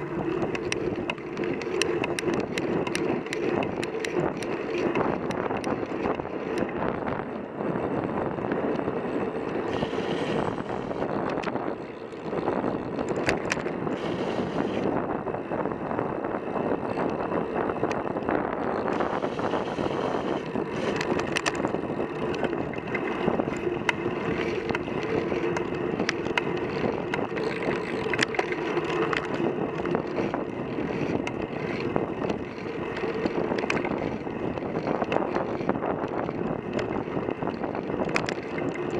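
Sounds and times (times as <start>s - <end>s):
clicks and knocks from road bumps: 0.0s - 7.1s, 8.5s - 15.0s, 16.8s - 38.9s
tyre and road noise: 0.0s - 38.9s
wind rushing over microphone: 0.0s - 38.9s.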